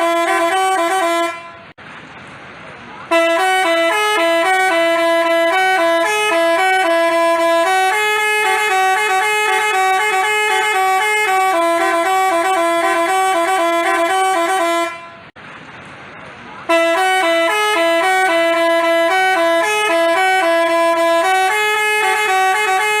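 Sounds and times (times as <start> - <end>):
bus horn playing a melody: 0.0 - 1.8, 3.1 - 15.4, 16.7 - 23.0.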